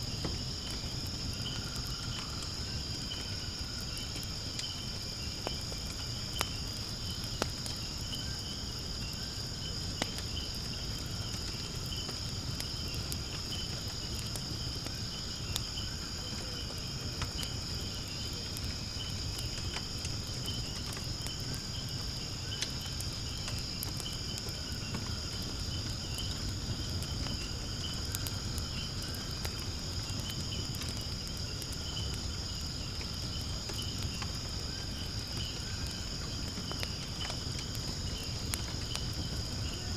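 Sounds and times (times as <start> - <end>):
insects chirping: 0.0 - 39.9
wood fire crackling: 0.0 - 39.9.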